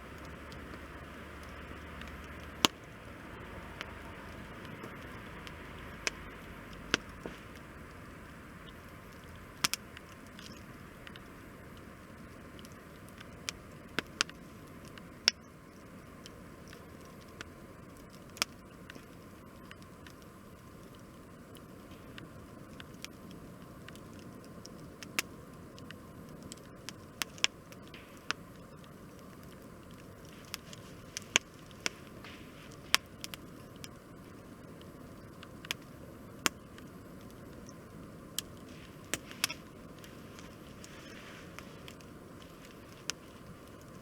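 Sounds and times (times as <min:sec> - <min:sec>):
low rush of burning: 0:00.0 - 0:44.0
sharp pops of burning wood: 0:00.0 - 0:44.0
wood fire crackling: 0:00.0 - 0:44.0.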